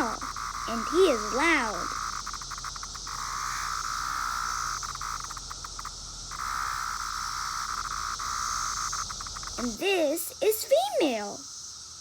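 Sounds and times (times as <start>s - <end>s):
cicada buzzing: 0.0s - 12.0s.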